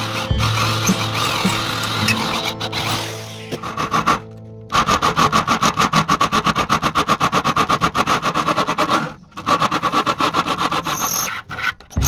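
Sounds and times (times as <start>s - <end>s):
tool rasping on metal: 0.0s - 12.0s.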